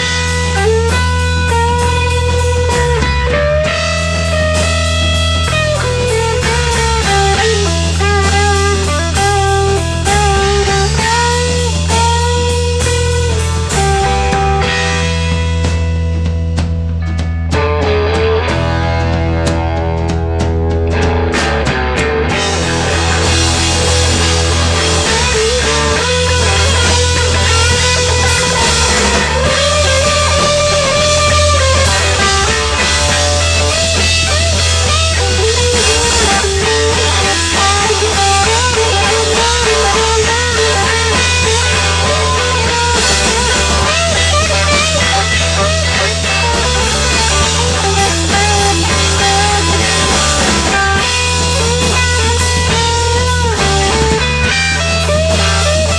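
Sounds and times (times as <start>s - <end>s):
bass line: 0.0s - 55.9s
drums: 0.0s - 55.9s
guitar: 0.0s - 55.9s.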